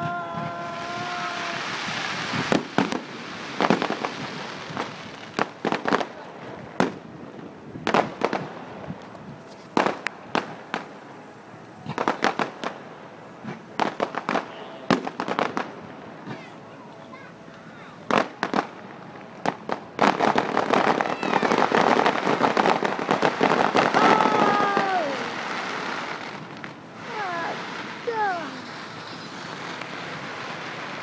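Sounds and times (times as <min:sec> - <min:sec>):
steady hiss: 0:00.0 - 0:20.9, 0:24.6 - 0:31.0
fireworks bangs and crackles: 0:00.0 - 0:31.0.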